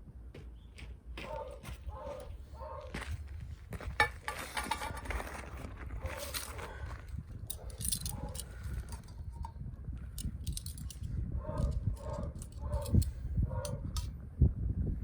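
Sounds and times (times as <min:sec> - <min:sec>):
wind buffeting microphone: 0:01.8 - 0:15.0.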